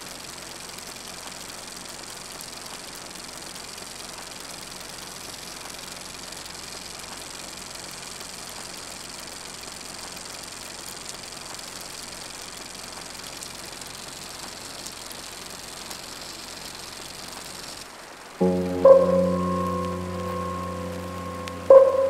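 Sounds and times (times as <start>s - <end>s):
film projector whirring: 0.0s - 17.9s.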